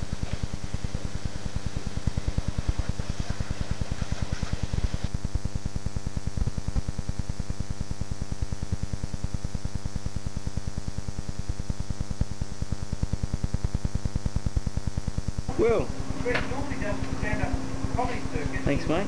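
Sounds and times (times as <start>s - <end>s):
electrical hum with buzzing pulse: 0.0s - 19.0s.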